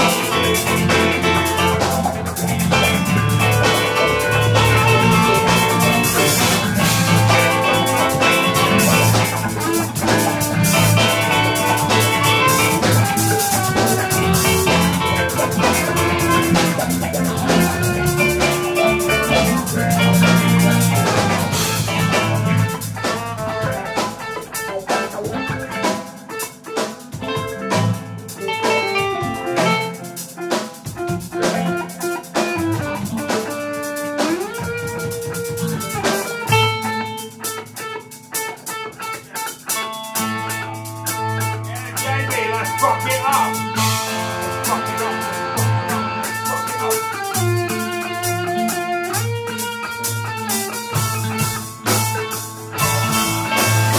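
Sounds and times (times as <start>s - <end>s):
jazz fusion band music: 0.0s - 53.9s.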